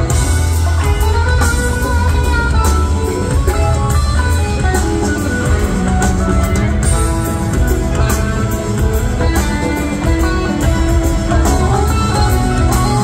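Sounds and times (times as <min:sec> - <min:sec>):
bass guitar: 0:00.0 - 0:13.0
drums: 0:00.0 - 0:13.0
electric guitars: 0:00.0 - 0:13.0.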